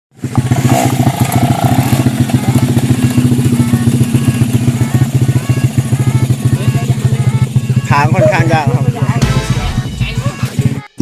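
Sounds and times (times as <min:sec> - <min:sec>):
dirt bike engine running loudly: 0:00.2 - 0:11.0.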